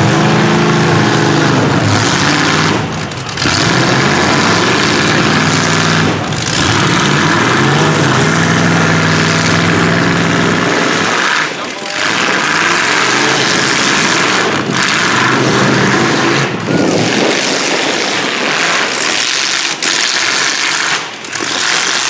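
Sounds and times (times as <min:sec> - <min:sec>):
truck engines revving hard: 0:00.0 - 0:22.0.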